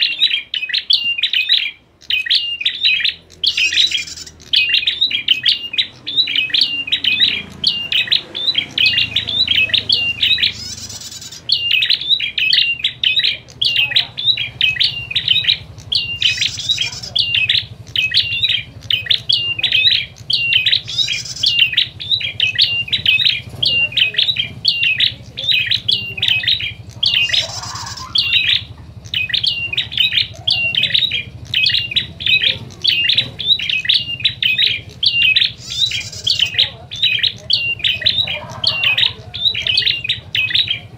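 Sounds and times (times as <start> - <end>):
birds chattering: 0.0 - 40.9.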